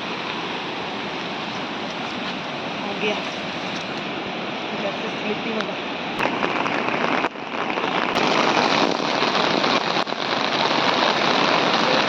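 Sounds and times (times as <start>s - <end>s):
rush of falling water: 0.0s - 12.0s.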